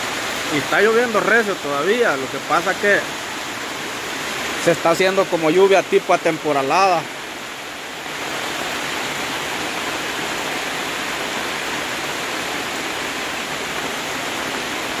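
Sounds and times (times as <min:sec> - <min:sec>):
heavy rain: 0:00.0 - 0:15.0
rainwater splashing onto dirt: 0:00.0 - 0:15.0.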